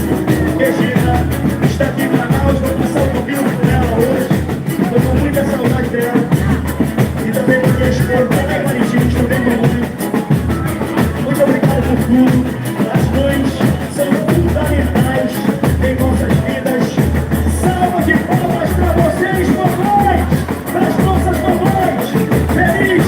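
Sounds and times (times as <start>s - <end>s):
bass: 0.0s - 23.0s
live band playing: 0.0s - 23.0s
pounding drum beat: 0.0s - 23.0s
voices singing: 0.0s - 23.0s.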